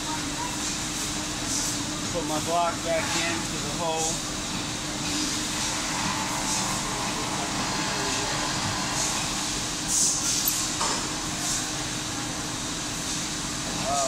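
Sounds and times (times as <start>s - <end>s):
workshop hum: 0.0s - 14.0s.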